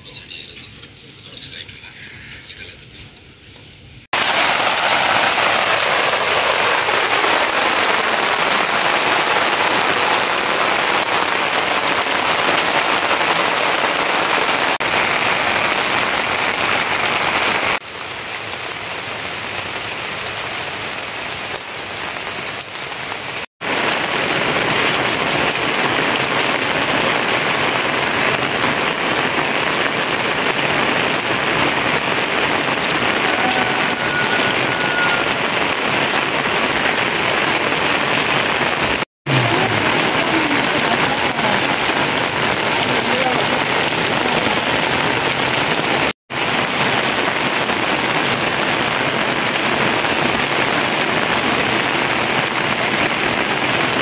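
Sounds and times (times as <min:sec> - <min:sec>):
steady rain falling: 0:04.0 - 0:54.0.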